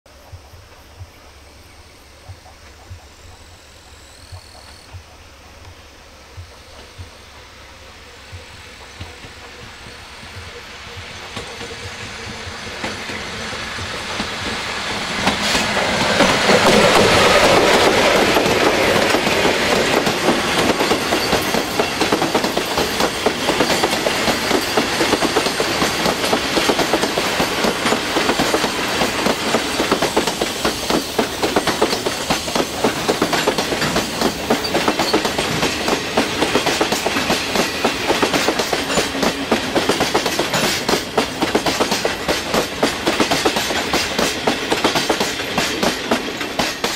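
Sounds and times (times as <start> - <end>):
electric locomotives passing: 0.1 - 46.9
train wheels clacking over rail joints: 8.2 - 46.9.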